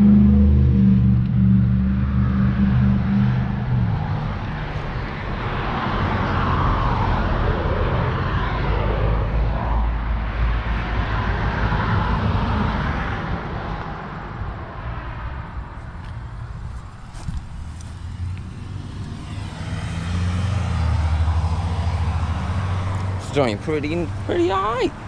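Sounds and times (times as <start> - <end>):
low rumble: 0.0 - 23.2
vehicle passing: 0.0 - 25.0.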